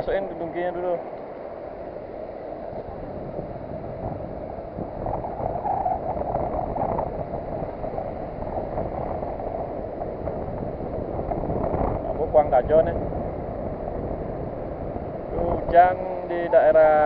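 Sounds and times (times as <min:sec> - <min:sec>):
surf washing on beach: 0:00.0 - 0:17.0
wind on microphone: 0:00.0 - 0:17.0.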